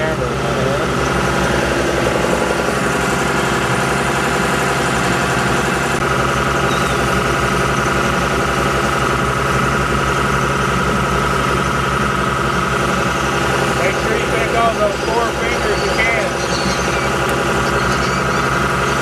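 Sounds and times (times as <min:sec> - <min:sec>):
boat engine humming: 0:00.0 - 0:19.0
high steady whine: 0:00.0 - 0:19.0.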